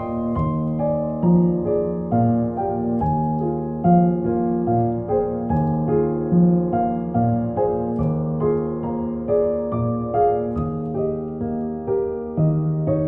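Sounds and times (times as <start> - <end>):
gentle solo piano music: 0.0 - 13.0.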